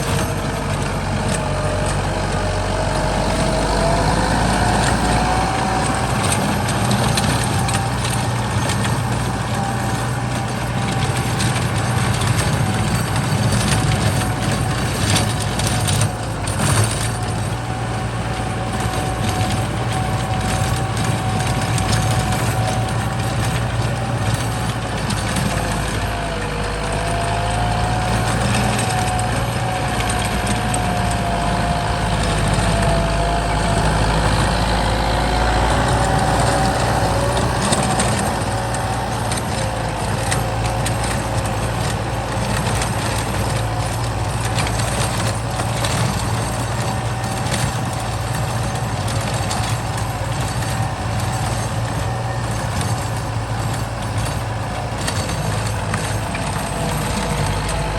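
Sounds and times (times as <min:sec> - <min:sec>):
diesel tractor engine running: 0:00.0 - 0:57.9.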